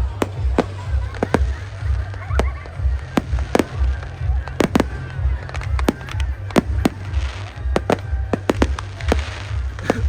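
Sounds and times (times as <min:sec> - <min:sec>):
fireworks bangs: 0:00.0 - 0:10.0
music: 0:00.0 - 0:10.0.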